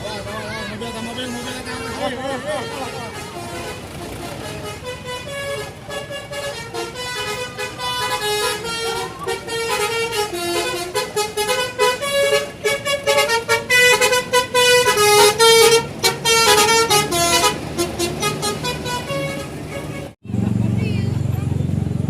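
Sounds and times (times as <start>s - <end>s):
bus horn playing a fast tune: 0.0s - 20.2s.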